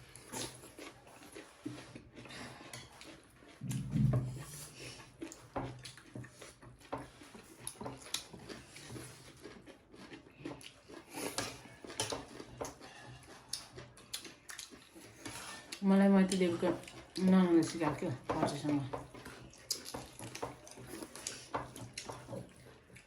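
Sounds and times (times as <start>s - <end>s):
chewing and mouth smacking: 0.0s - 3.9s, 4.7s - 17.3s, 19.0s - 23.0s.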